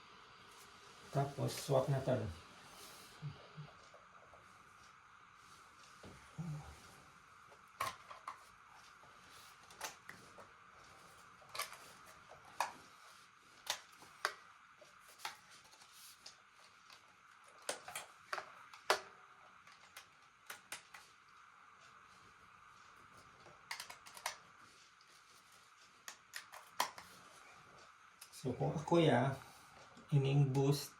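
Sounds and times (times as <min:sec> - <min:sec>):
faint steady hiss: 0:00.0 - 0:30.9.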